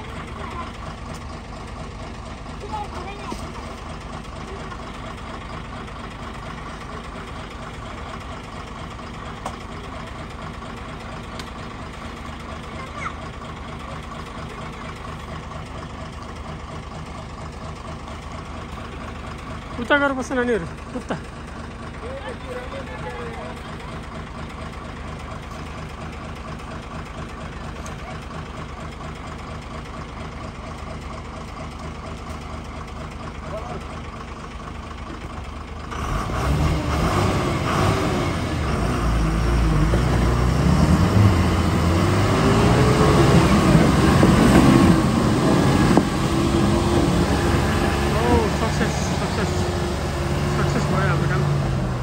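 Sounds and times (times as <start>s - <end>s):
diesel bus engine idling: 0.0s - 52.0s.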